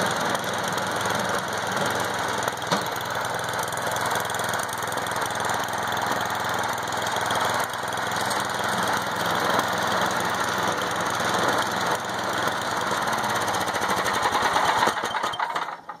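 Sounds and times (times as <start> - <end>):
snowthrower engine running: 0.0 - 16.0.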